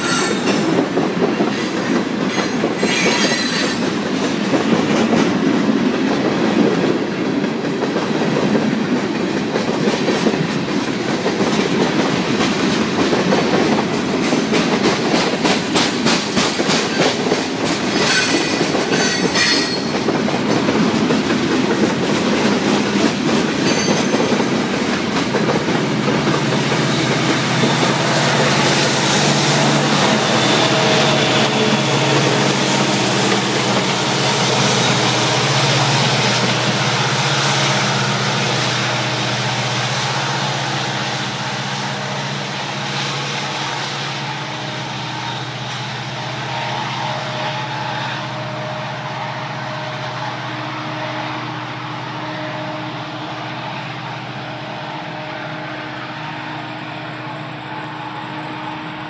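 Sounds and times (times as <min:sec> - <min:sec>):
train wheels on rails: 0:00.0 - 0:59.0
locomotive engine drone: 0:10.4 - 0:59.0.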